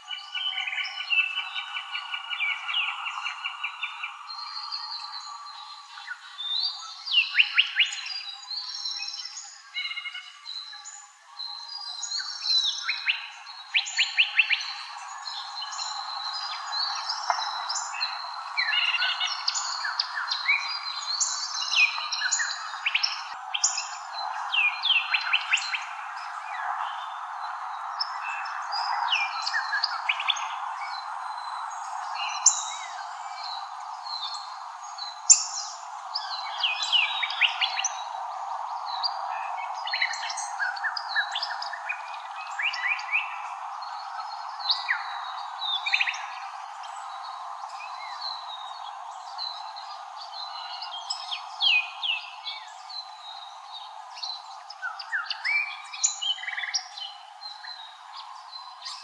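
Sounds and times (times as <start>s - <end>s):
birds chirping and twittering: 0.0s - 59.0s.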